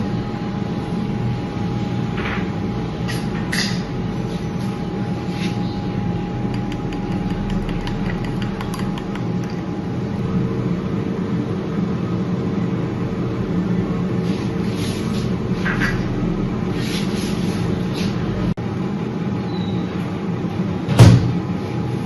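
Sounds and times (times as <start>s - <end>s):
mechanical whirring hum: 0.0s - 22.0s.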